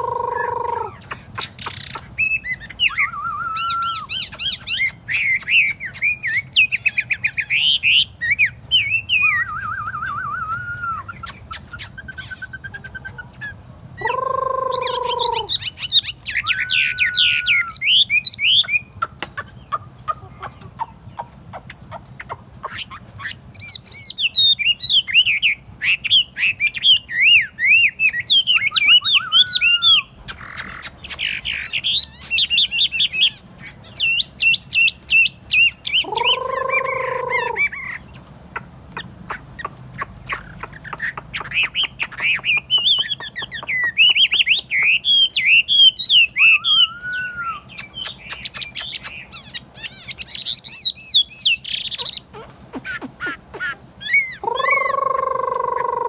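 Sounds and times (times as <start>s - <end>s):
songbird whistling phrases: 0.0s - 19.1s, 22.2s - 38.1s, 40.3s - 56.0s.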